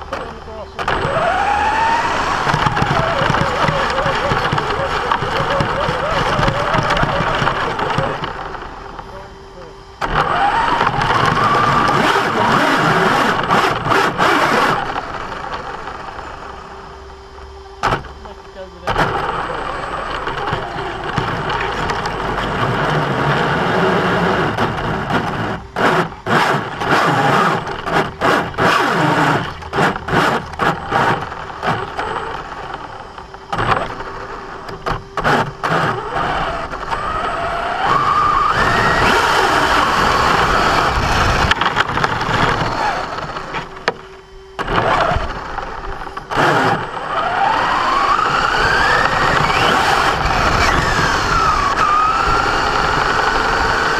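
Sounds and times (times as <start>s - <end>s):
rc truck drivetrain whining and grinding: 0.0s - 53.9s.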